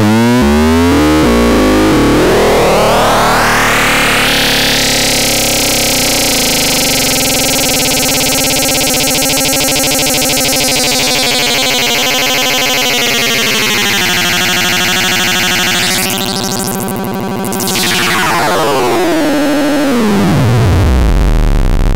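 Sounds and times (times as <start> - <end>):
buzzy synthesizer tones: 0.4 - 21.4.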